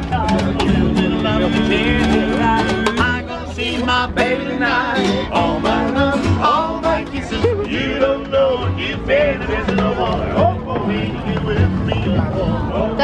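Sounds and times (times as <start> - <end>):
double bass: 0.0 - 13.0
man singing: 0.0 - 13.0
plucked banjo or guitar: 0.0 - 13.0.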